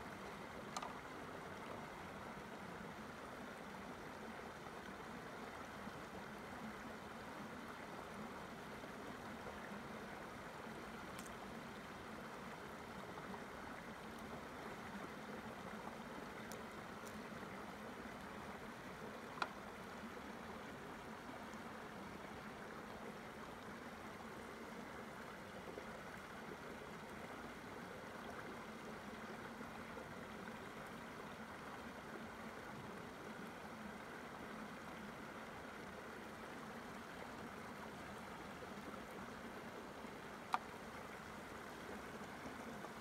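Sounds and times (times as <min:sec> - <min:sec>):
stream running over rocks: 0:00.0 - 0:43.0.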